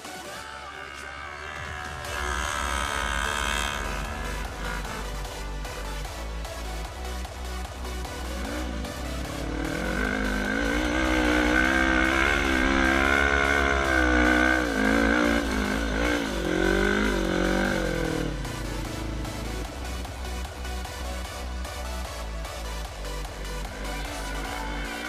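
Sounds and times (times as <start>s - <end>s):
quad engine revving: 0.0s - 25.0s.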